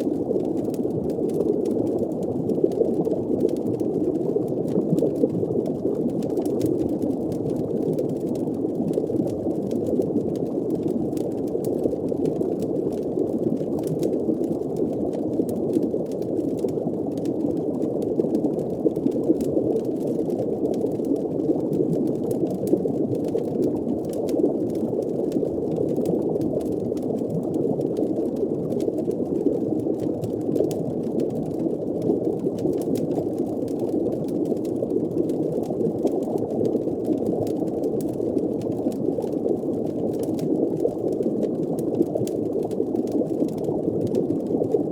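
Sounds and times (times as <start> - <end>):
faint crackles: 0.0 - 44.9.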